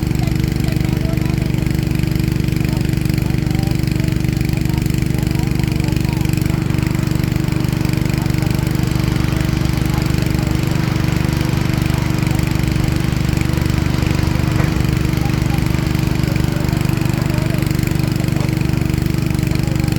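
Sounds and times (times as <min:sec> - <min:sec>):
heavy diesel engine droning: 0:00.0 - 0:19.9.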